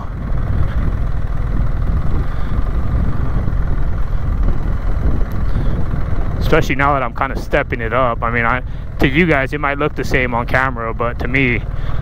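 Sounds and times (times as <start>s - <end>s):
motorcycle engine rumble: 0.0s - 12.0s
riding noise: 0.0s - 12.0s.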